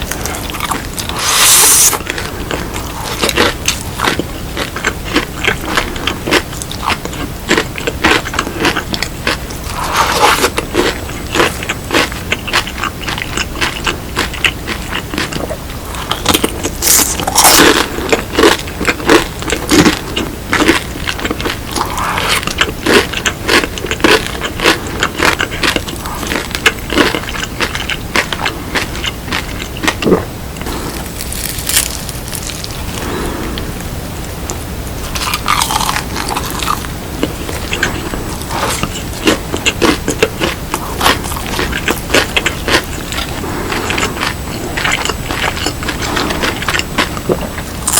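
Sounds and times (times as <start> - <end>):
crunching and chewing fried chicken: 0.0 - 33.8, 34.5 - 47.9.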